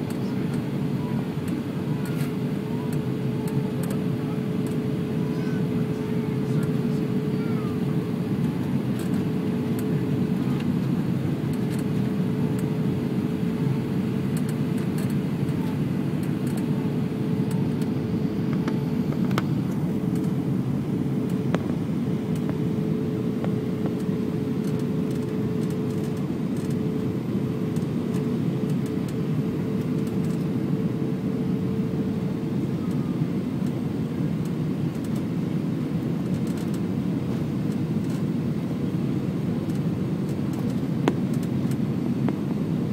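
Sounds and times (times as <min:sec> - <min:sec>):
airplane cabin noise: 0:00.0 - 0:42.9.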